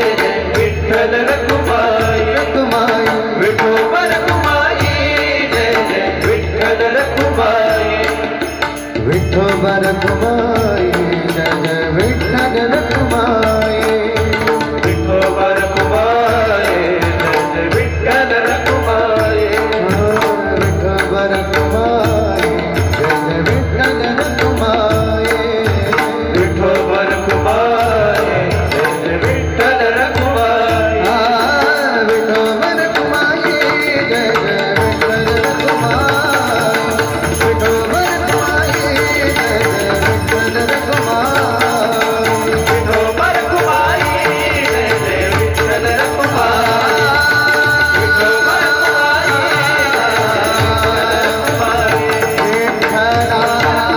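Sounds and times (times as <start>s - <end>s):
devotional music: 0.0s - 53.9s.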